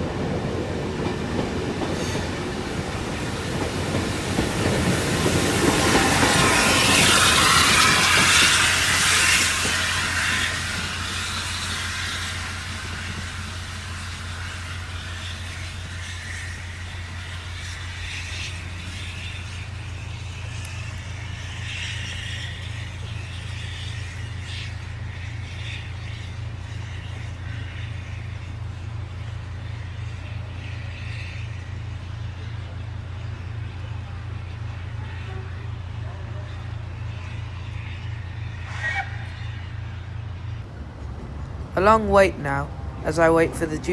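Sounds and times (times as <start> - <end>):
train rolling past: 0.0 - 43.9.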